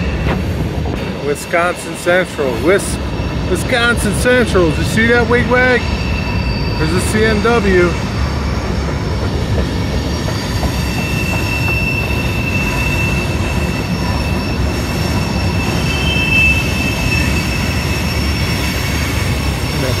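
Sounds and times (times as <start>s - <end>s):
freight train wheels rumbling: 0.0s - 20.0s
high wheel squeal: 0.0s - 20.0s.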